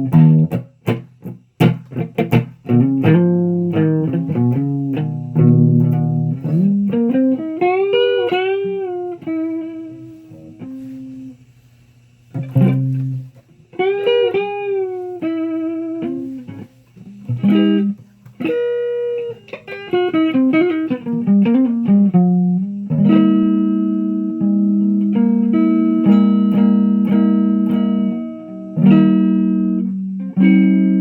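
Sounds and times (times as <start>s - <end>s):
electric guitar through amp: 0.0s - 11.4s, 12.3s - 31.0s.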